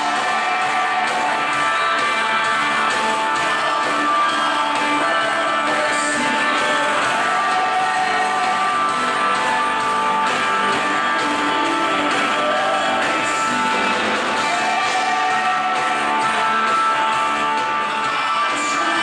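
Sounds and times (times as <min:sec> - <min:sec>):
band music with guitar: 0:00.0 - 0:19.0.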